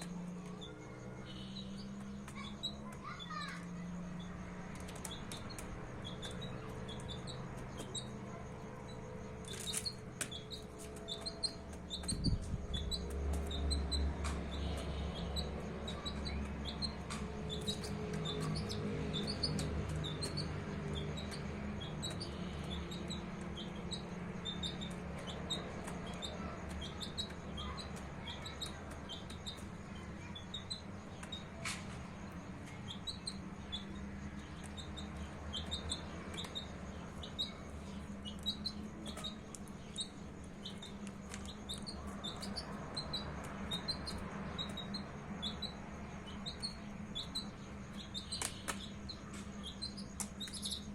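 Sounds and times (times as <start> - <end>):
baby chicks peeping: 0.0 - 50.9.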